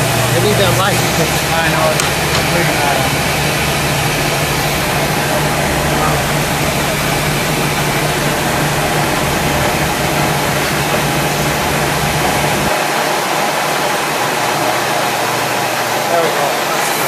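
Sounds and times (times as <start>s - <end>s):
low machine hum: 0.0s - 17.0s
machine spindle whirring hiss: 0.0s - 17.0s.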